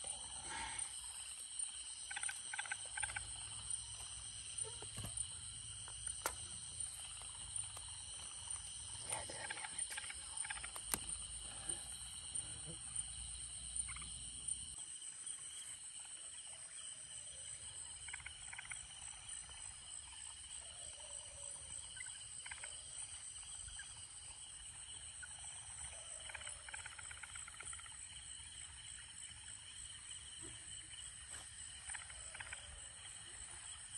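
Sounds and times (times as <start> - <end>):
frog pulsed calls: 0.0 - 33.6
crickets chirring: 0.0 - 33.9.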